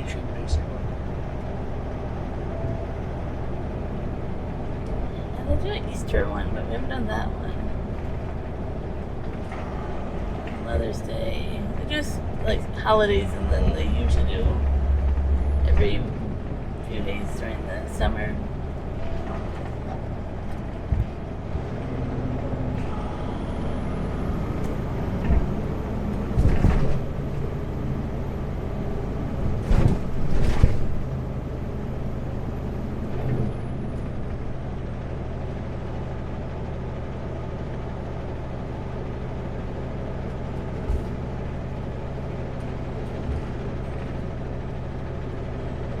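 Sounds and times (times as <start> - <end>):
truck diesel engine running: 0.0 - 46.0.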